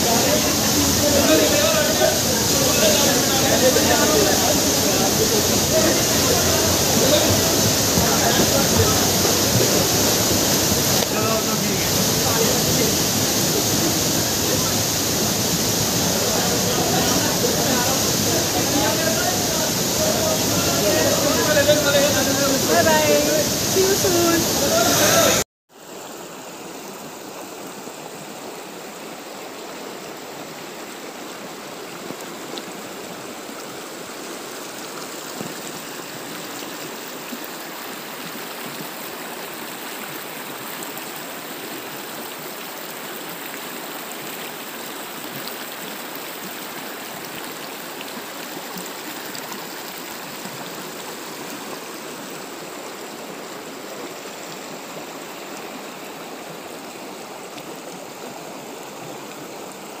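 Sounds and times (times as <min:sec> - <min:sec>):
stream rushing over rocks: 0:00.0 - 1:00.0.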